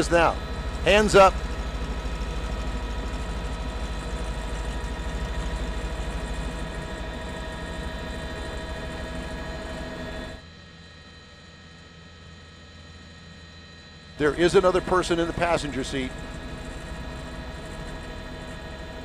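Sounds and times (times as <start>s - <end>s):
helicopter rotor and turbine: 0.0s - 19.0s.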